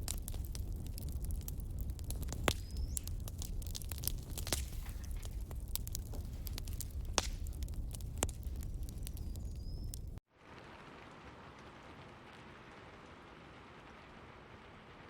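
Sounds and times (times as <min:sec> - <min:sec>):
fireplace crackling: 0:00.0 - 0:15.0
soft rain: 0:00.0 - 0:15.0.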